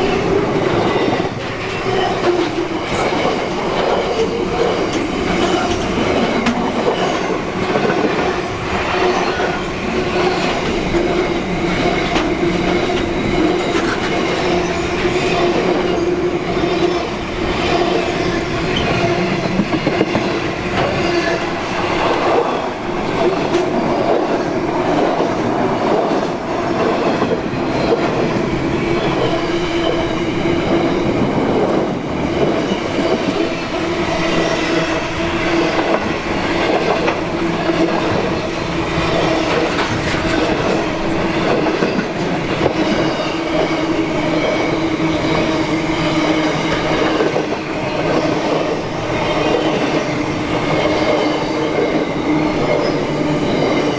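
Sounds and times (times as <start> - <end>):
train passing: 0.0 - 53.9.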